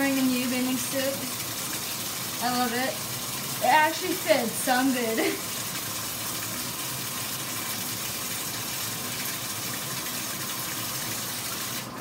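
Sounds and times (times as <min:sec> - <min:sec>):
water running into tub: 0:00.0 - 0:12.0.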